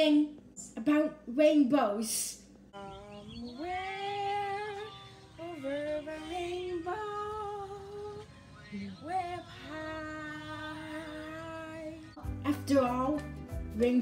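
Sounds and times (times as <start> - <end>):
girl singing slow song: 2.7 - 14.0.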